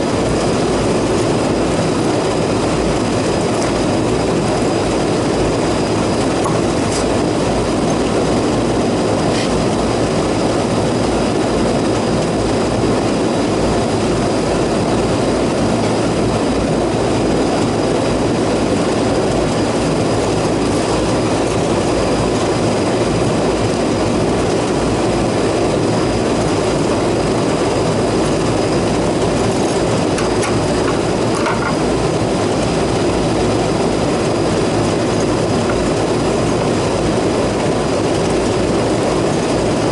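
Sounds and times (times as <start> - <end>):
air conditioning unit running: 0.0 - 39.9.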